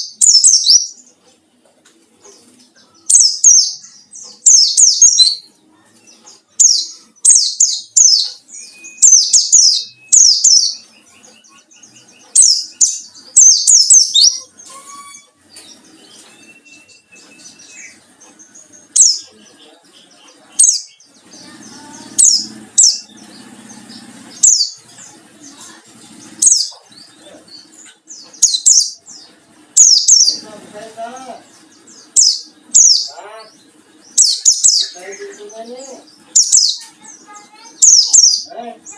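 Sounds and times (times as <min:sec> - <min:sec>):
bird high rapid chirping: 0:00.0 - 0:01.4, 0:02.2 - 0:38.9.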